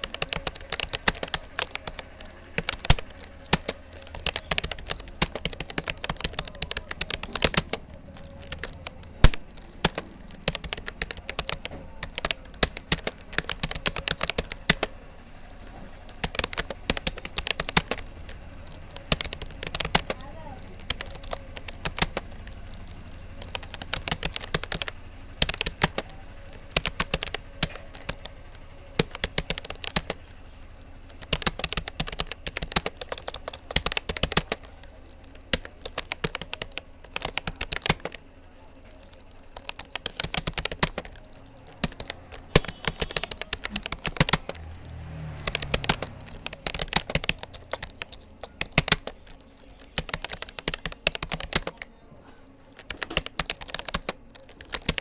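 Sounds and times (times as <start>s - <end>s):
computer keyboard typing: 0.0s - 55.0s.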